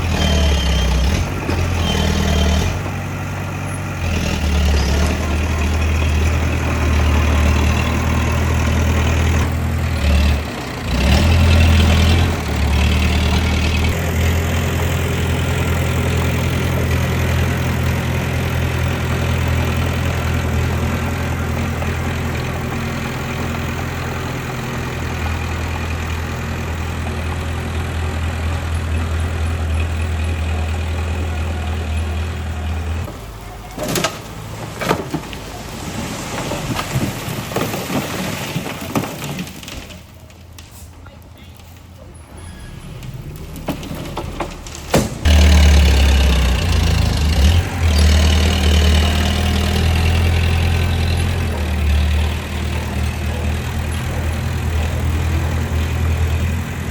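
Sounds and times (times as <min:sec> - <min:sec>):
diesel engine droning: 0:00.0 - 0:39.0, 0:39.6 - 0:56.9.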